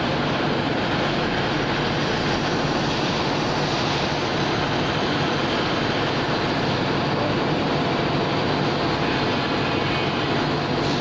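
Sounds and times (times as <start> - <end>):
machining center running: 0.0 - 11.0.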